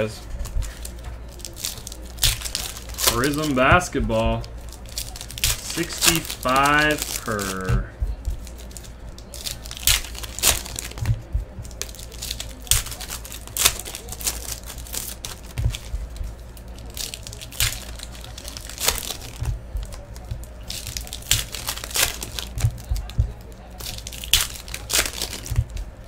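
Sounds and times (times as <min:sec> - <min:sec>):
foil wrappers tearing and crinkling: 0:00.0 - 0:26.0.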